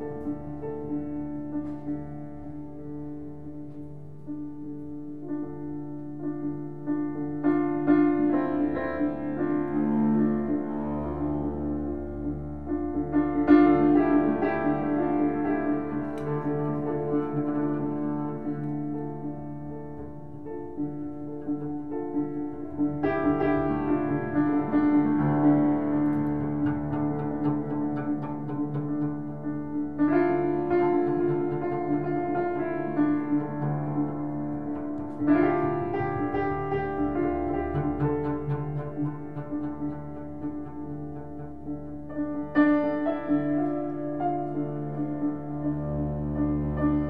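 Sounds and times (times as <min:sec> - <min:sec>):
bowed double bass: 0:00.0 - 0:47.0
piano chords: 0:00.0 - 0:47.0.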